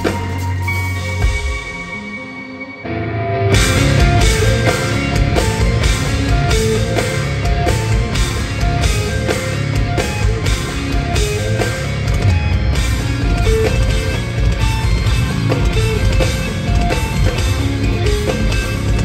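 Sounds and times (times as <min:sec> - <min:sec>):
drum kit and cymbals: 0:00.0 - 0:02.0, 0:03.5 - 0:19.0
electric guitar: 0:00.0 - 0:19.0.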